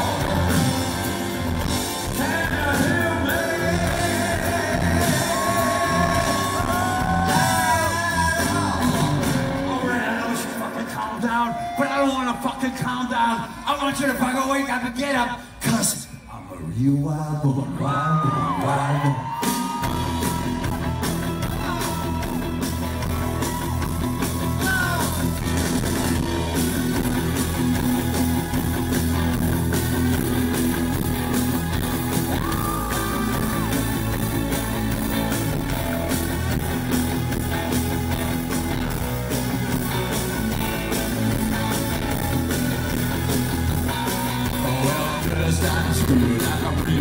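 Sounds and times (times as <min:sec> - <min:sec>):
rock band playing: 0:00.0 - 0:14.3, 0:19.2 - 0:47.0.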